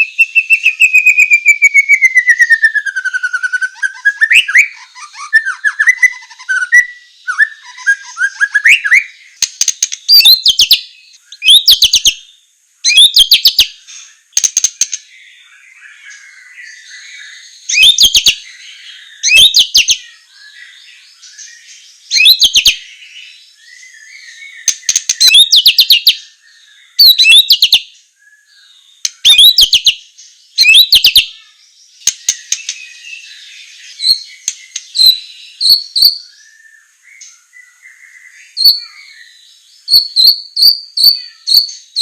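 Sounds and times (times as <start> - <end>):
bird harsh rattling song: 0.0 - 42.0.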